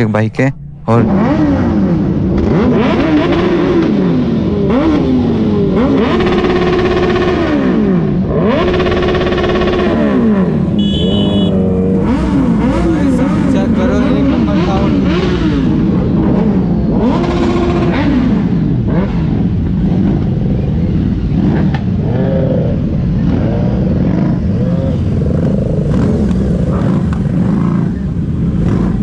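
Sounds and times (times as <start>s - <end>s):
motorcycle engines revving: 0.0s - 29.0s.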